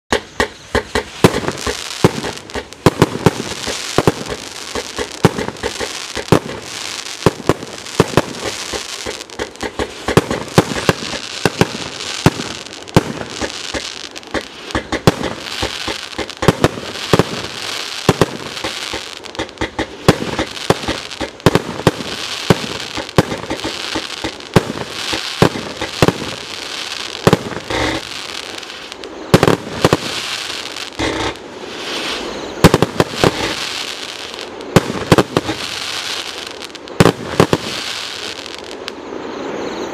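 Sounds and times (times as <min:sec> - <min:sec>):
firework launch bangs and bursts: 0:00.1 - 0:38.9
hiss of rising fireworks: 0:00.1 - 0:39.9.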